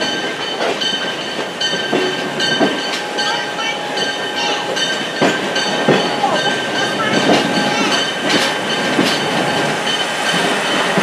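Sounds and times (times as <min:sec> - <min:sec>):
train wheels rumbling on rail: 0:00.0 - 0:11.0
wheels clacking over rail joints: 0:00.0 - 0:11.0.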